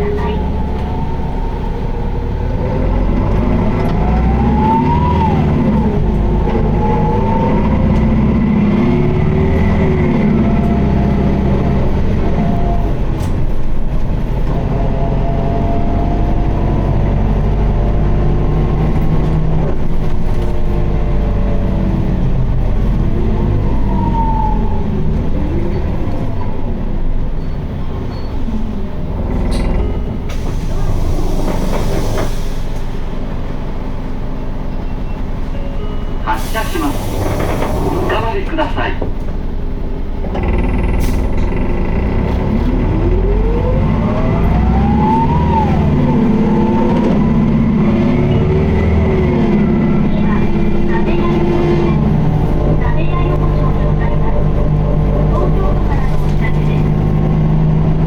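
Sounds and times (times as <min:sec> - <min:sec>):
bus diesel engine whining: 0:00.0 - 0:58.0.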